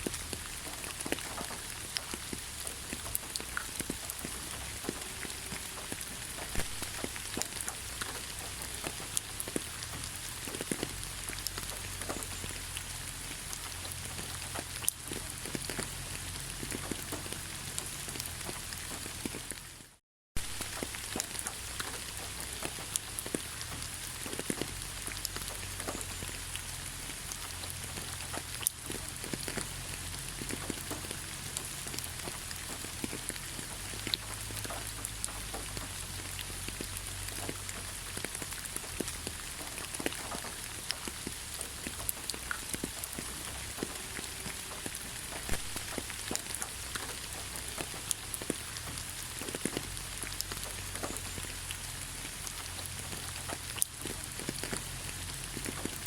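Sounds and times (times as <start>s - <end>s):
raindrops ticking: 0.0s - 56.0s
steady rain on a surface: 0.0s - 56.0s.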